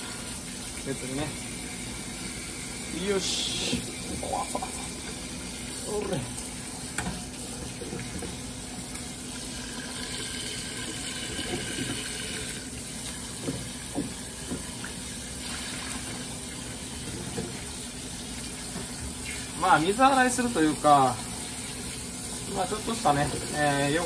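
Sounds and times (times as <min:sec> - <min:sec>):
water running into a metal sink: 0:00.0 - 0:24.0.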